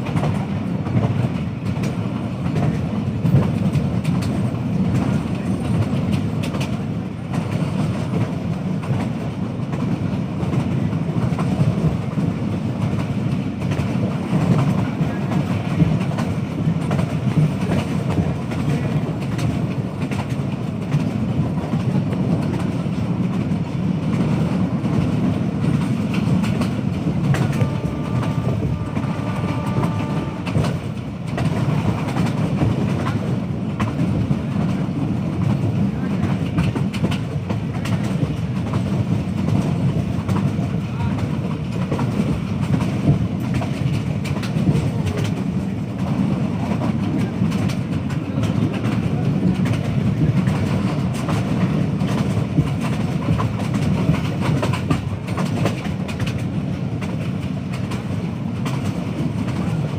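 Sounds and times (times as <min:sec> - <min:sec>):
train rumbling: 0:00.0 - 0:59.9
train wheels clickety-clack: 0:00.0 - 0:59.9.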